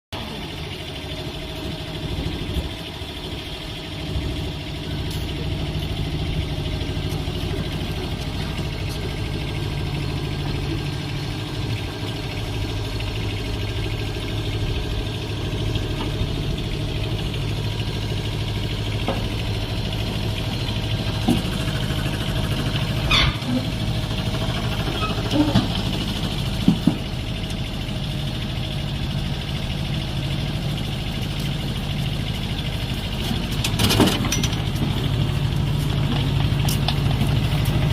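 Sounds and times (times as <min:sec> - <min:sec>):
excavator engine running: 0:00.1 - 0:37.9.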